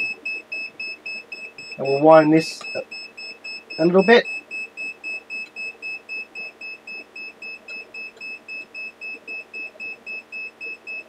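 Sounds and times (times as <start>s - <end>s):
fast high-pitched beeps: 0.0s - 11.0s.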